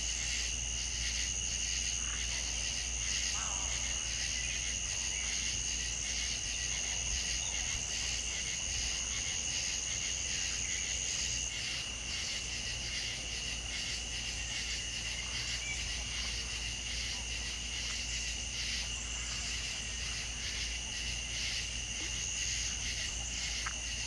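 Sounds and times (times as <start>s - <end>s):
insects chirring: 0.0s - 24.0s
low steady hum: 0.0s - 24.0s.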